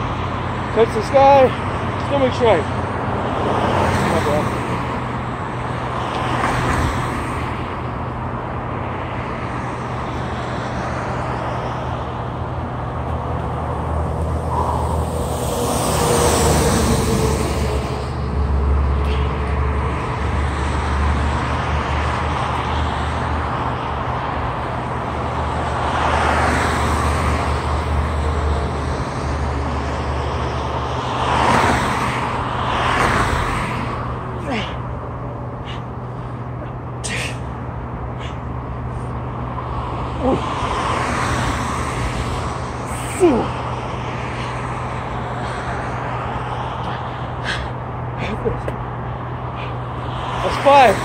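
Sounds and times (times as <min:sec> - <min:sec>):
road traffic hum: 0:00.0 - 0:51.0
vehicles passing: 0:00.0 - 0:51.0.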